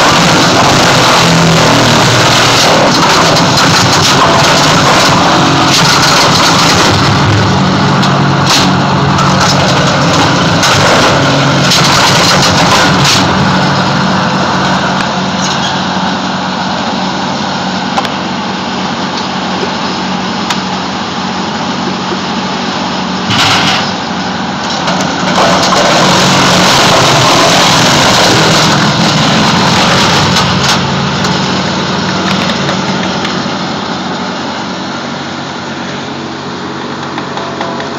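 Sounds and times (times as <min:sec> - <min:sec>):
wood chipper running: 0:00.0 - 0:37.9.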